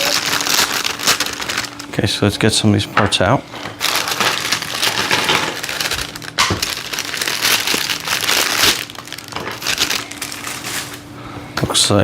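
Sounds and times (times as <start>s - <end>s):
plastic packaging crinkling: 0.0s - 2.3s, 3.6s - 11.1s.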